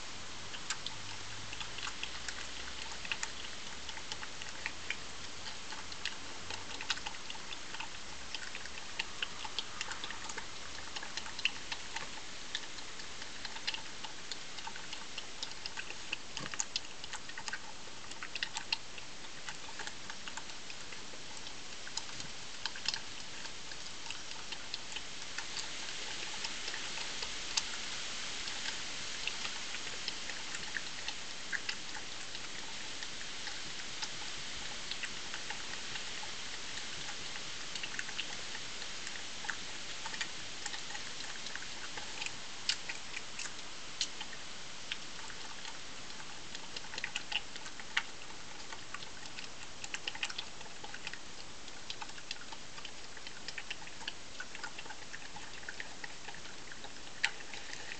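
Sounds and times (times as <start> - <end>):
badger chewing food: 0.0 - 57.9
steady hiss: 0.0 - 57.9.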